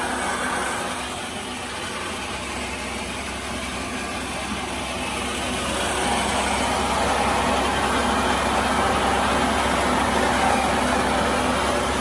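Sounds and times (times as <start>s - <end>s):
grain pouring from chute: 0.0s - 12.0s
thresher machine running: 0.0s - 12.0s.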